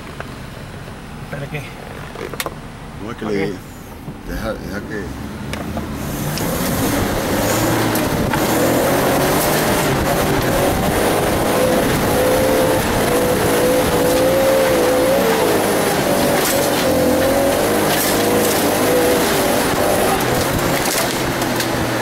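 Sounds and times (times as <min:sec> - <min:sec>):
off-road vehicle engine under load: 0:00.0 - 0:22.0.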